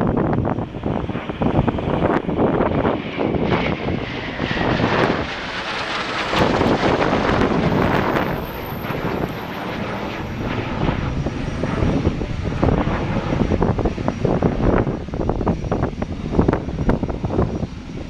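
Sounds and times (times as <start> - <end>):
jet engines running loudly: 0.0 - 18.0.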